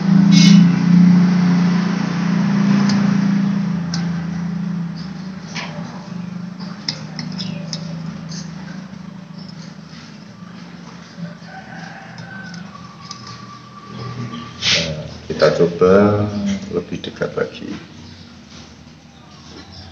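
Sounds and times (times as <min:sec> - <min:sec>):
low engine hum: 0:00.0 - 0:19.9.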